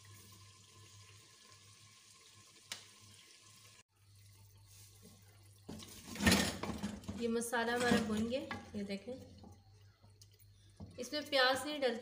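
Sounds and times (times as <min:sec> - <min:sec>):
faint sizzle of frying: 0:00.0 - 0:12.0.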